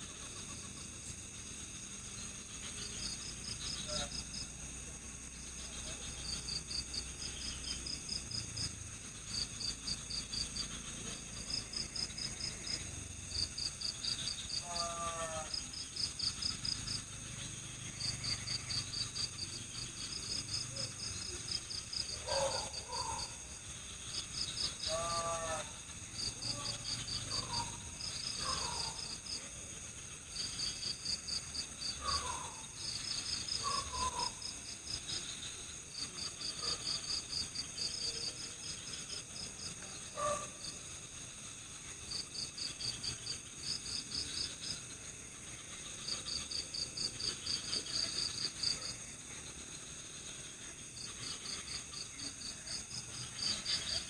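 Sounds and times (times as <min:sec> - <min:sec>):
crickets chirping: 0:00.0 - 0:54.0
high-pitched insect drone: 0:00.0 - 0:54.0.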